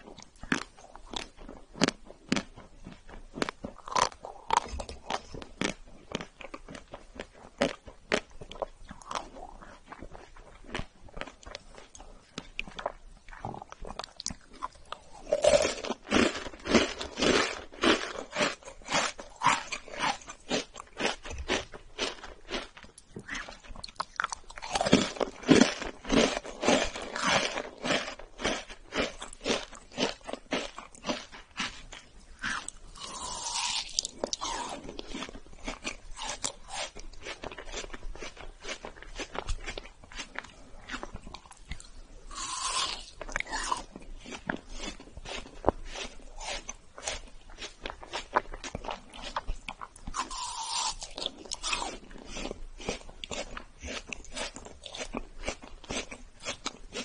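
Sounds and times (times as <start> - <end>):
crunching and chewing cookie: 0.0 - 57.0.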